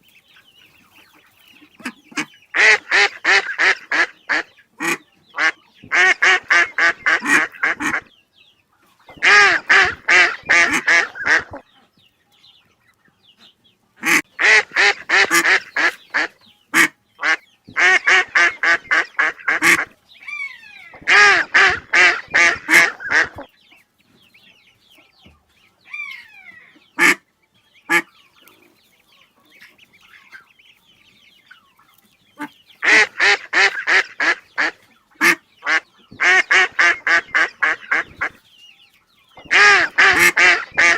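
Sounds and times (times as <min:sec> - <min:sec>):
ducks quacking: 0:00.0 - 0:08.2, 0:08.8 - 0:11.9, 0:13.4 - 0:23.8, 0:26.0 - 0:38.6, 0:39.2 - 0:40.9.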